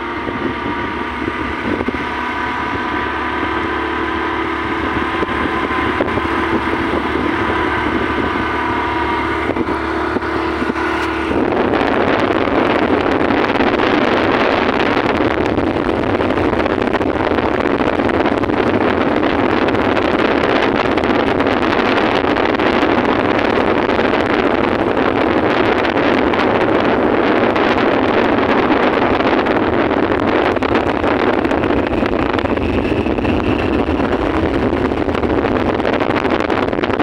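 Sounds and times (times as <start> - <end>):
vehicle engine hum: 0.0 - 37.0
wind rushing over microphone: 0.0 - 37.0.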